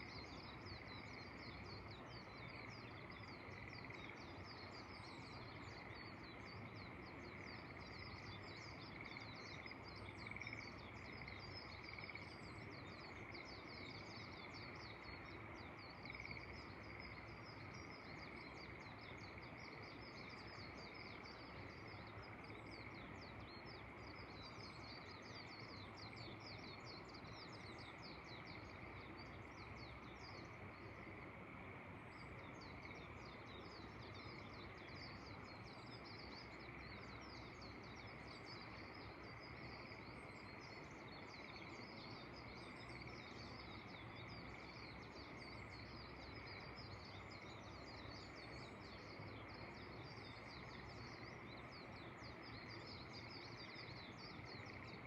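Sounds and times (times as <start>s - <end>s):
faint wind hiss: 0.0s - 55.0s
high chirps of birds and frogs: 0.0s - 55.0s.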